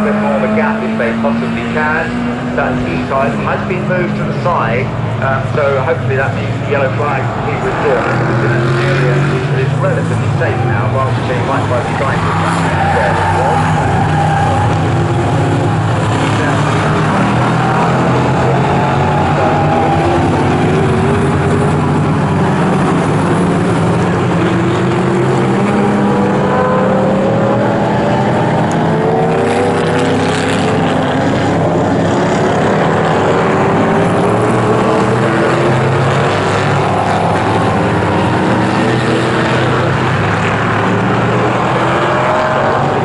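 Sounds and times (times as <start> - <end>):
race car engines accelerating: 0.0 - 43.0.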